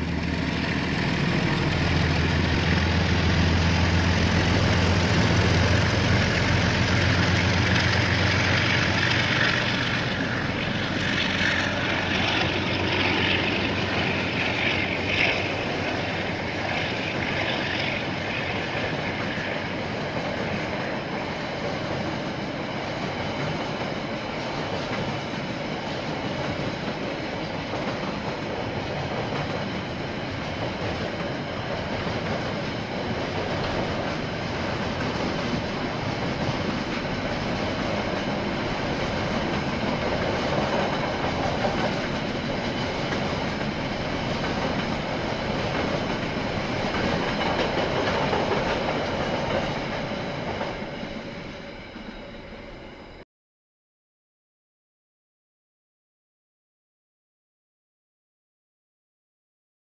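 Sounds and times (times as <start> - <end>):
freight train rumbling past: 0.0 - 53.2.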